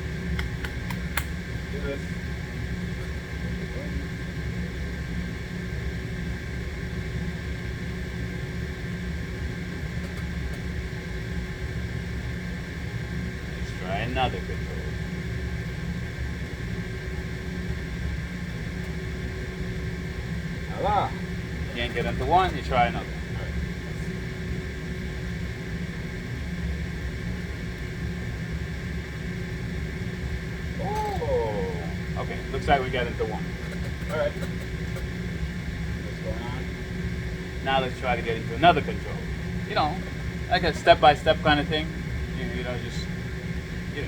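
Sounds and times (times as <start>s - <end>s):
hvac machinery humming: 0.0s - 44.0s.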